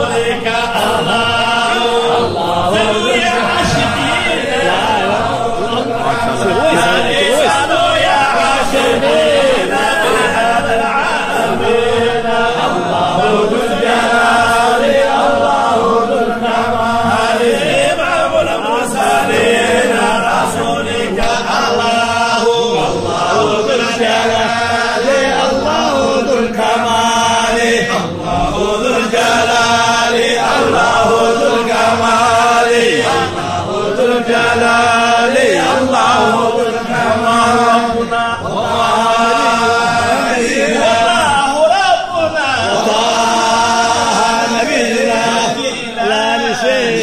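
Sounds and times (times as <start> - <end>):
men chanting in chorus: 0.0 - 47.0.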